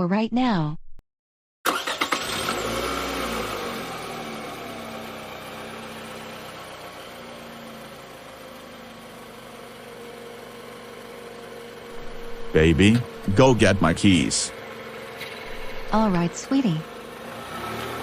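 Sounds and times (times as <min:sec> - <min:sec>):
car engine starting and idling: 0:01.7 - 0:18.0.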